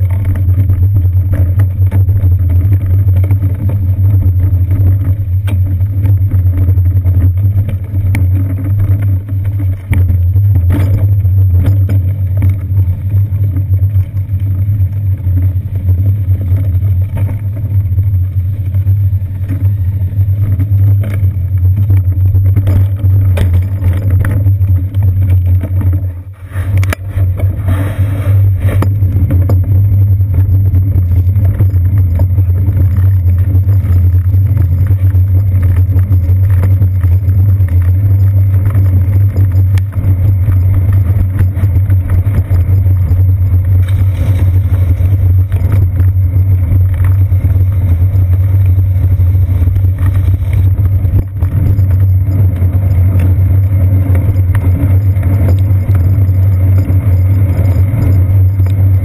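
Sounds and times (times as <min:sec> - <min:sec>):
road vibration rumble: 0:00.0 - 0:59.0
wind on camera: 0:00.0 - 0:59.0.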